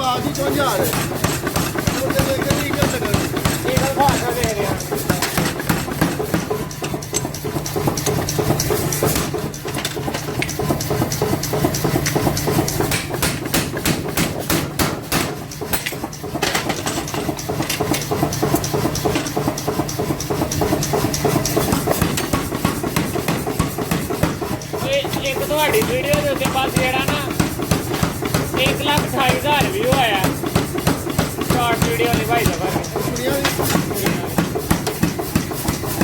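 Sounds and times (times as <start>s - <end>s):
hammer striking hot metal: 0.0s - 36.0s
steady machine hum: 0.0s - 36.0s.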